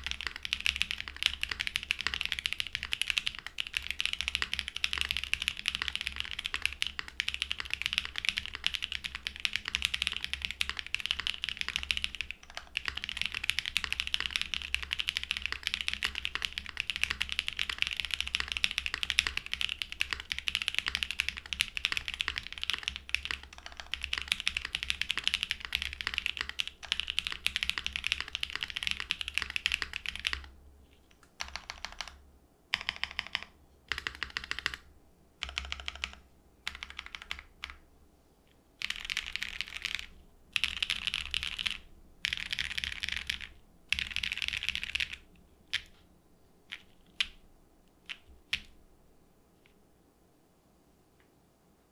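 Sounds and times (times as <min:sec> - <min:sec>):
keyboard keys pressed in groups: 0:00.0 - 0:30.5, 0:31.4 - 0:34.8, 0:35.4 - 0:37.8, 0:38.8 - 0:45.9
fast typing on mechanical keyboard: 0:00.0 - 0:30.6, 0:31.3 - 0:37.8, 0:38.8 - 0:46.0, 0:46.7 - 0:47.4, 0:48.0 - 0:48.8.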